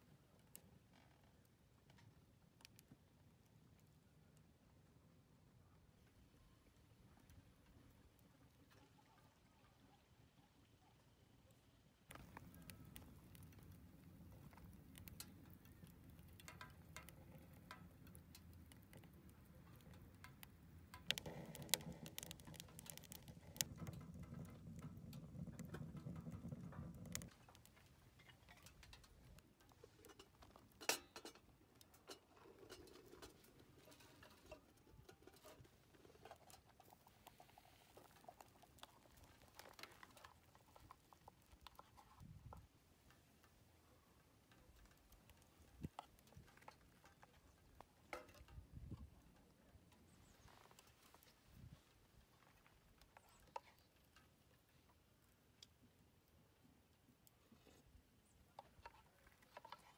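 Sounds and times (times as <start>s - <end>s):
wood fire crackling in stove: 0.0s - 9.4s, 12.0s - 59.9s.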